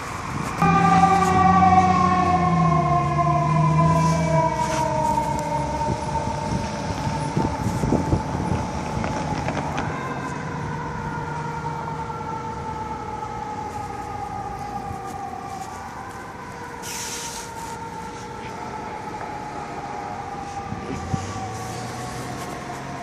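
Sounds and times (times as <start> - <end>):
fire truck siren wailing: 0.0 - 23.0.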